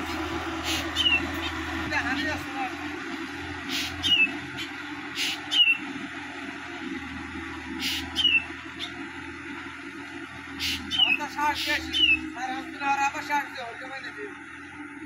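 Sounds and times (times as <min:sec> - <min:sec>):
distant tractor engine running: 0:00.0 - 0:15.0.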